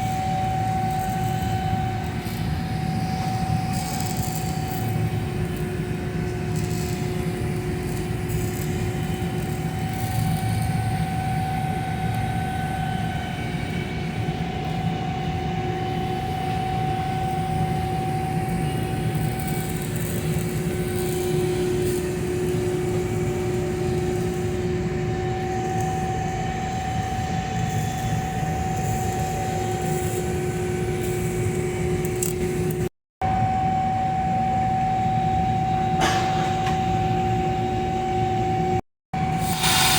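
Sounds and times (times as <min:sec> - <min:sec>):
welding equipment tones: 0:00.0 - 0:32.9, 0:35.5 - 0:39.9
welding hum and hiss: 0:00.0 - 0:39.9.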